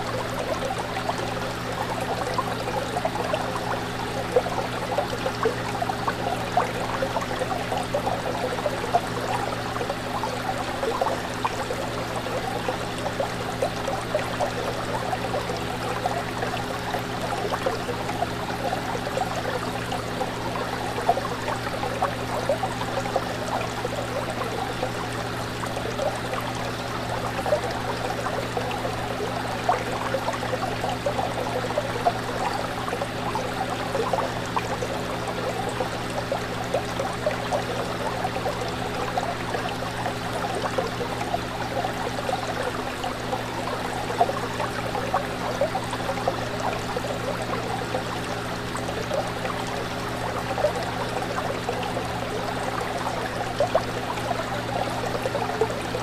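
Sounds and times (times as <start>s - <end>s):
water bubbling and trickling: 0.0s - 56.0s.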